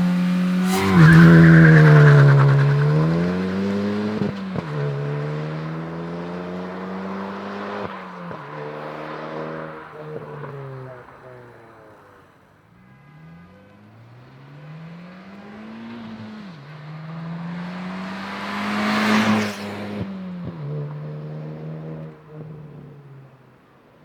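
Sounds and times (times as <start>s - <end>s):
car accelerating past: 0.0s - 12.4s, 13.2s - 23.4s.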